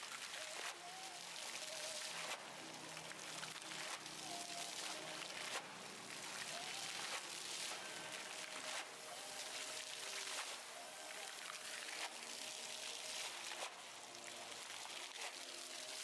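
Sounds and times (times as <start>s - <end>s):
fountain water splashing into basin: 0.0s - 16.0s.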